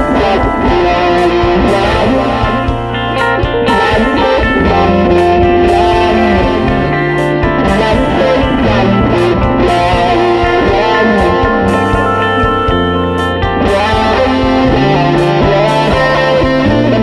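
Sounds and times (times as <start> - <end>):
electric guitar music: 0.0 - 17.0.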